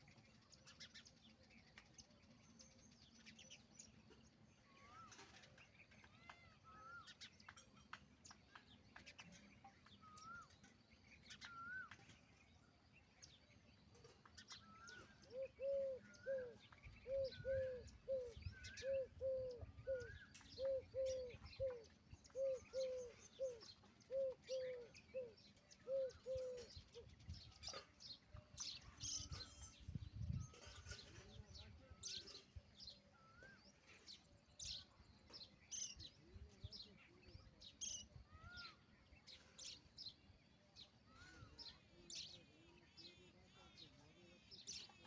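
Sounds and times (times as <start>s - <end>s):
faint bird chirps: 0.0s - 45.0s.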